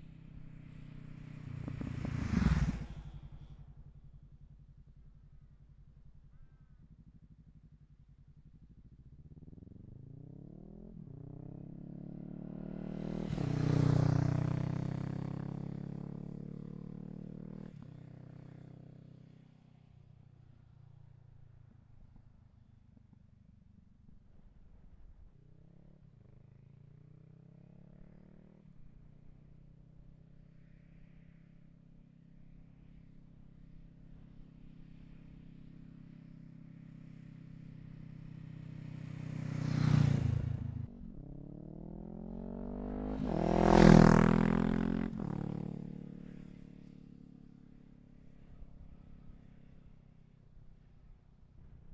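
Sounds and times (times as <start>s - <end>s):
motorcycle accelerating past: 0.0s - 4.4s, 9.4s - 20.7s, 24.4s - 51.9s.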